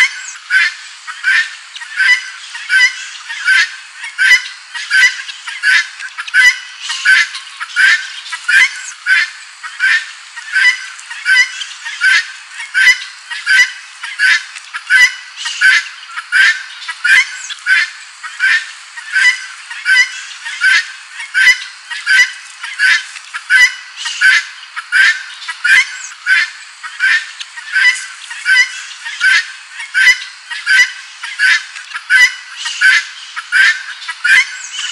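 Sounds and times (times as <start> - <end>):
guineafowl calling: 0.0 - 34.9.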